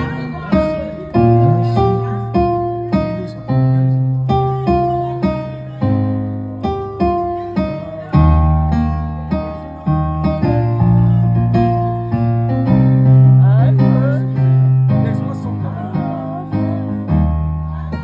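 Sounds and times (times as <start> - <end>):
piano chords over bass line: 0.0 - 18.0.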